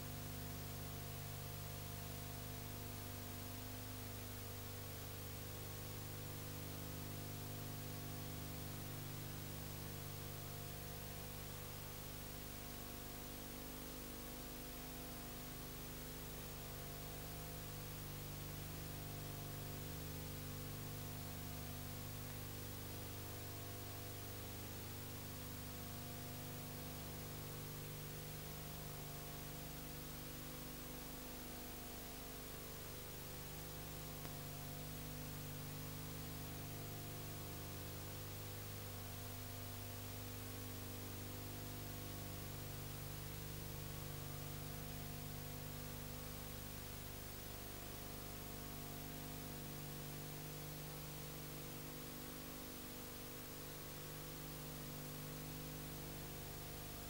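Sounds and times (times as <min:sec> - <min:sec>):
constant hiss: 0:00.0 - 0:57.0
electrical mains hum: 0:00.0 - 0:57.0.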